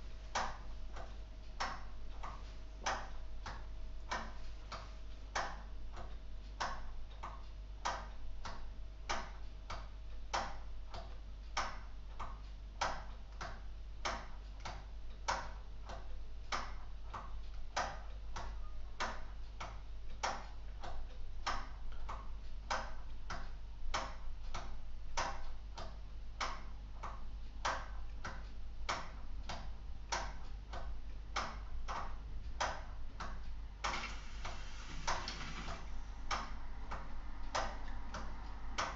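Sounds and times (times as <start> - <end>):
mechanical clock ticking: 0.3 - 38.9.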